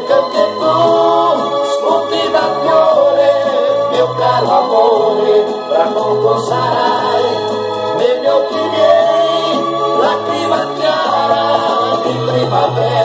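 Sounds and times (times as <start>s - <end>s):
slow pop ballad backing track: 0.0s - 13.0s.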